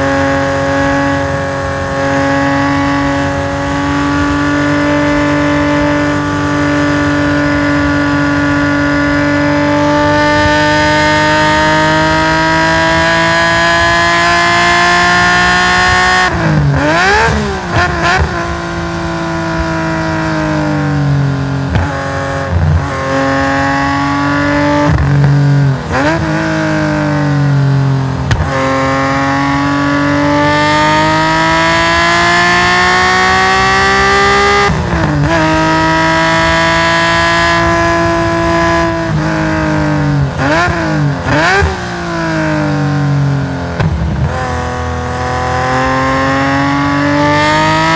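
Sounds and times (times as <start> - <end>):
race car engine at full throttle: 0.0 - 47.9.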